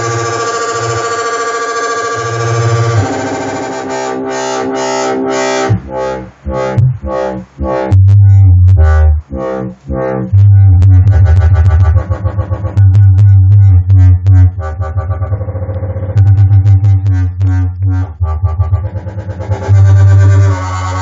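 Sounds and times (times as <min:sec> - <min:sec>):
deep synth bass notes: 0:00.0 - 0:21.0
pulsing synthesizer chord: 0:00.0 - 0:21.0.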